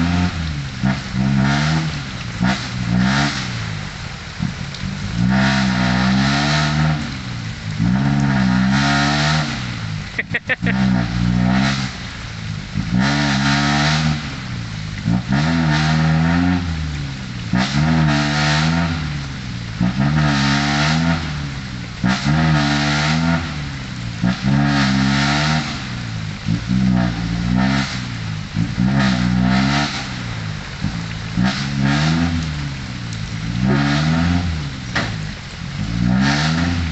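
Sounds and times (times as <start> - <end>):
diesel truck engine revving: 0.0 - 36.9.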